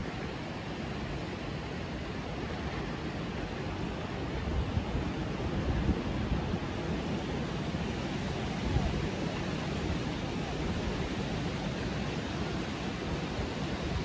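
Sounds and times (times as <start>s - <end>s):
wind and surf rushing: 0.0s - 14.0s
wind buffeting microphone: 0.0s - 14.0s.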